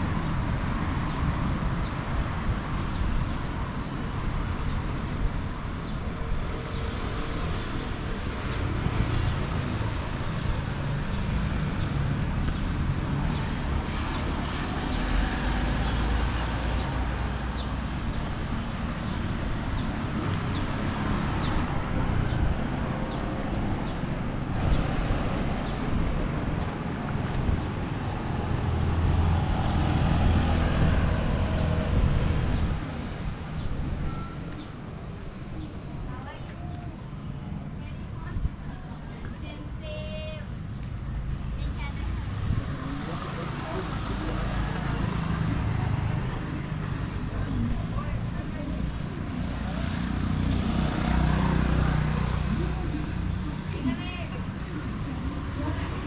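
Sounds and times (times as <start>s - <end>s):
cars and scooters passing: 0.0s - 56.0s.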